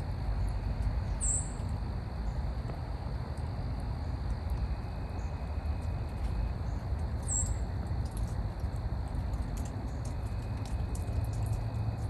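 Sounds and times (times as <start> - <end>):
fire crackling: 0.0 - 12.0
low fire rumble: 0.0 - 12.0.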